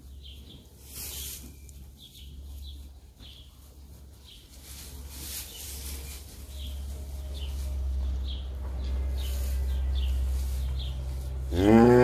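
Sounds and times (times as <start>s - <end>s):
steady low hum: 0.0s - 11.6s
small birds chirping: 0.0s - 11.8s.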